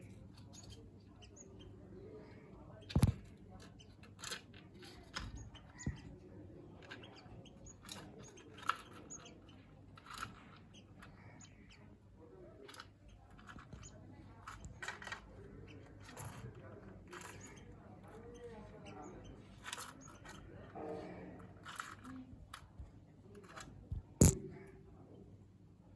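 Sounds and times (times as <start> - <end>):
birds chirping faintly: 0.0 - 25.7.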